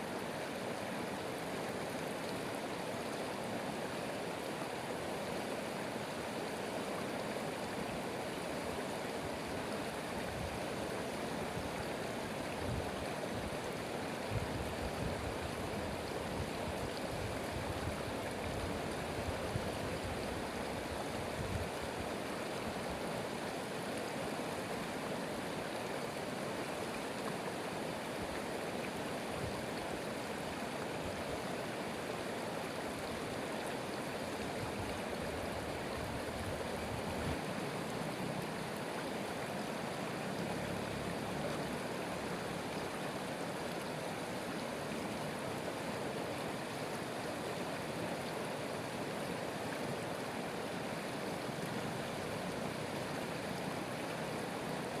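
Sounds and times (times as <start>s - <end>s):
stream flowing water: 0.0s - 55.0s.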